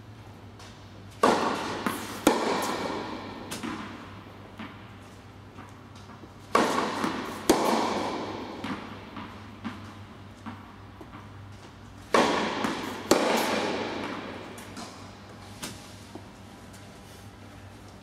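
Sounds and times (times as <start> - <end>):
rackets hitting tennis balls: 0.4 - 18.0
tennis balls bouncing: 0.6 - 16.7.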